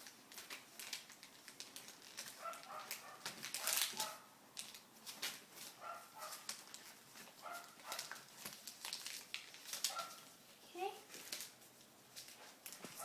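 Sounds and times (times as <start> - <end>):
paper crinkling: 0.0 - 10.5, 11.1 - 13.0.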